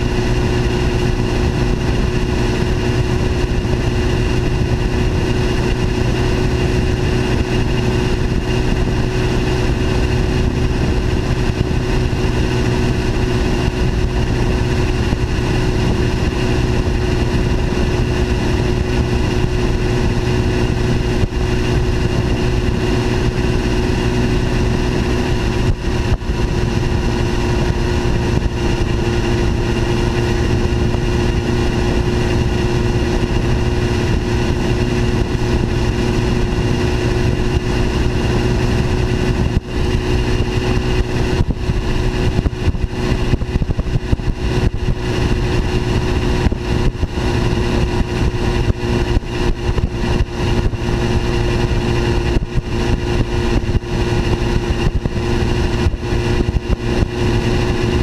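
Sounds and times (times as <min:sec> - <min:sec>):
motorcycle engine droning: 0:00.0 - 0:58.0
wind and road rush: 0:00.0 - 0:58.0.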